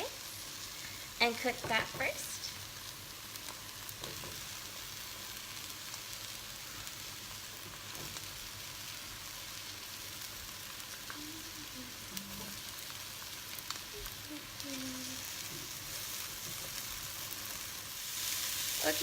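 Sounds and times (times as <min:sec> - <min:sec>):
faint crackles: 0:00.0 - 0:19.0
vegetables sizzling in oil: 0:00.0 - 0:19.0.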